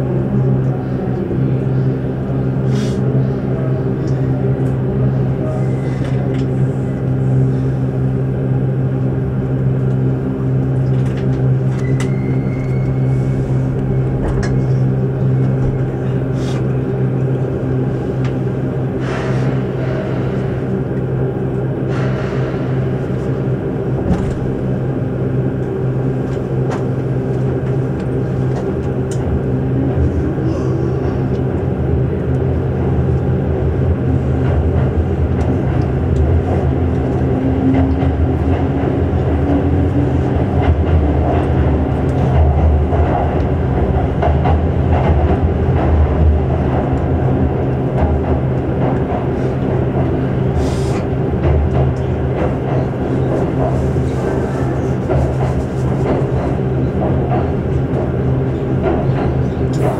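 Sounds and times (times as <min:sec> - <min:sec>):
train rumble in tunnel: 0:00.0 - 0:59.9.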